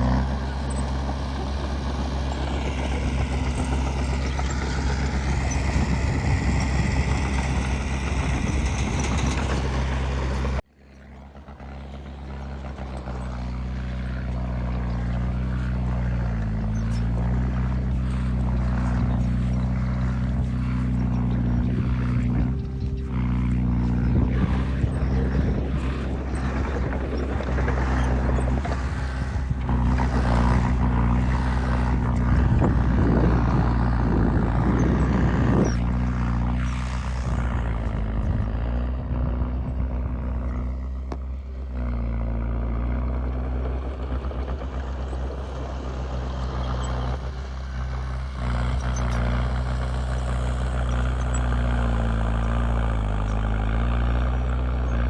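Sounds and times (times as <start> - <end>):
coarse noisy rumble: 0.0 - 55.0
diesel engine running: 0.0 - 55.0.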